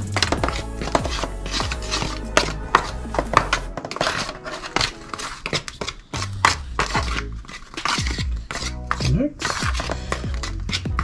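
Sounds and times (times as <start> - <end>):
background music: 0.0 - 11.0
fork scraping aluminium pan: 0.2 - 11.0.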